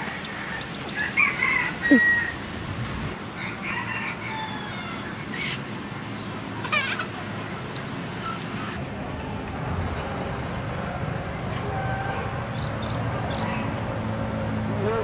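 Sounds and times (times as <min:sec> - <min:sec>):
birds chirping: 0:00.0 - 0:03.2, 0:04.8 - 0:15.0.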